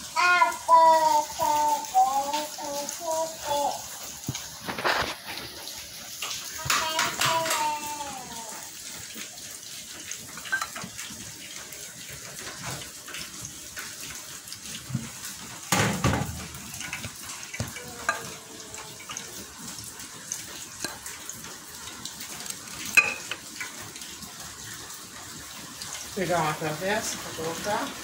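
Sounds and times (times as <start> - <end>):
heavy rain hissing: 0.0 - 9.4, 14.4 - 28.0.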